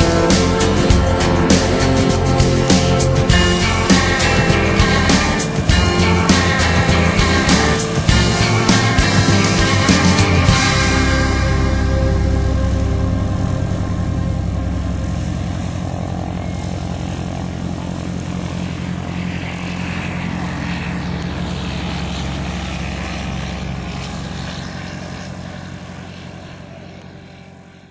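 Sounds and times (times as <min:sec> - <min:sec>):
light aircraft propeller engine: 0:00.0 - 0:27.9.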